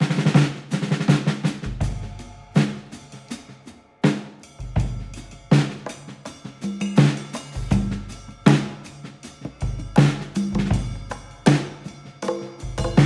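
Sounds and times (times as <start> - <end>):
drum kit fills: 0.0 - 13.0.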